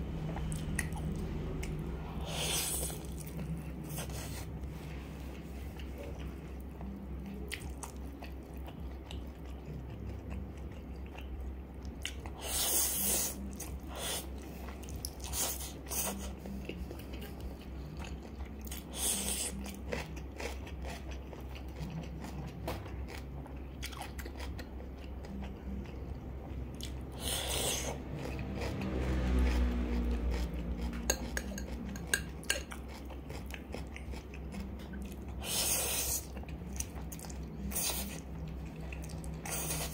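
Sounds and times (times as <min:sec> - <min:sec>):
chewing: 0:00.3 - 0:04.6, 0:05.4 - 0:39.9.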